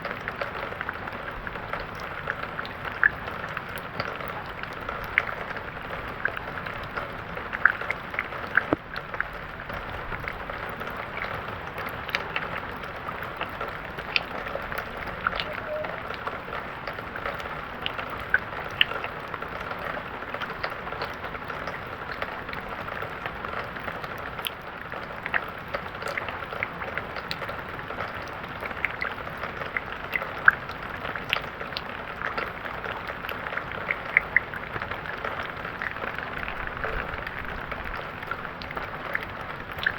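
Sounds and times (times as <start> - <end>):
raindrop ticks: 0.0 - 39.9.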